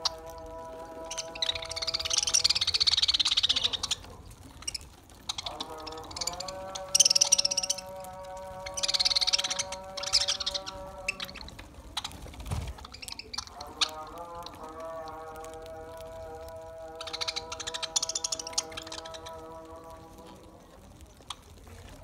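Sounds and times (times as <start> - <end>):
budgerigars chattering and warbling: 0.0 - 22.0.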